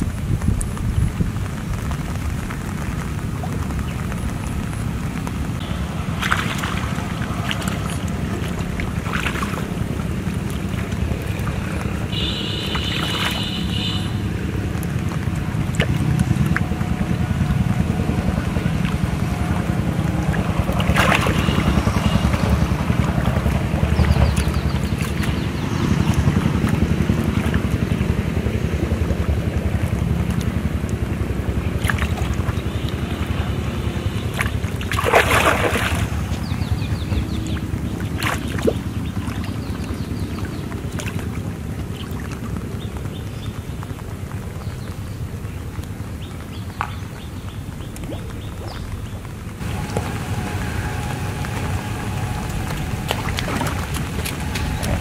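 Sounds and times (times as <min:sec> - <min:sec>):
wind rumble on microphone: 0:00.0 - 0:55.0
fish splashing at water surface: 0:05.0 - 0:43.2, 0:46.8 - 0:55.0.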